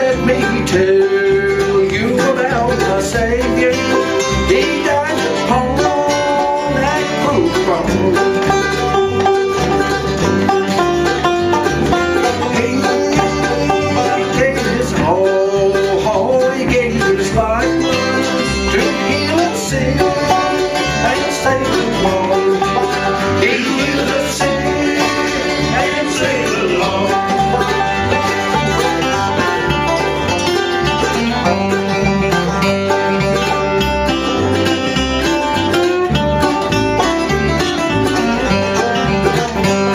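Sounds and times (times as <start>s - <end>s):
banjo picking: 0.0s - 39.9s
bass beat: 0.0s - 39.9s
bluegrass band playing: 0.0s - 39.9s
guitar picking: 0.0s - 39.9s.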